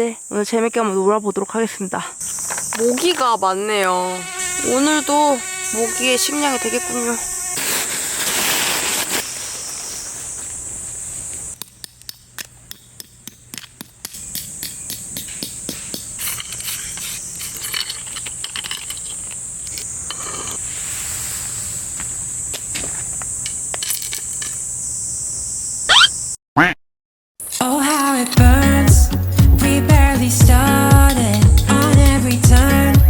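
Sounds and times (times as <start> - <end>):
insects droning: 0.0 - 26.4, 27.4 - 33.0.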